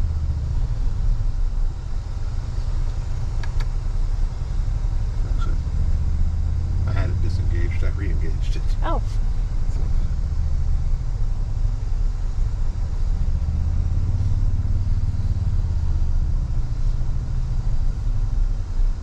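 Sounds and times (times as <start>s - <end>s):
pickup engine rumble: 0.0s - 19.0s.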